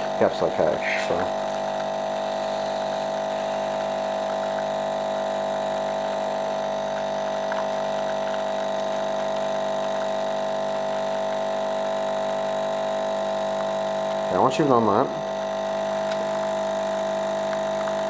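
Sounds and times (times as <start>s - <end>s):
coffee machine pump humming: 0.0s - 18.0s.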